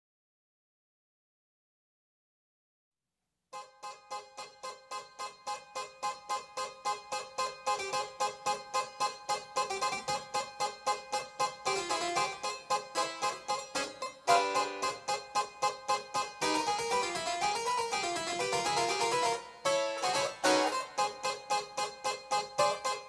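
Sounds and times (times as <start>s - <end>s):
solo harpsichord playing: 3.6s - 23.0s.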